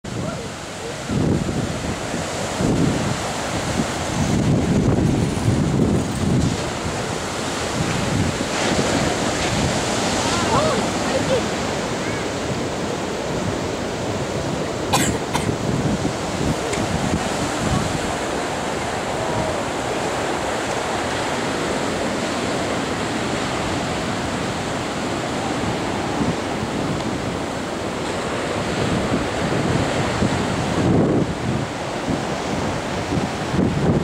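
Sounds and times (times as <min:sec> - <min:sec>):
sea surf breaking on beach: 0:00.0 - 0:34.0
wind buffeting microphone: 0:00.0 - 0:34.0.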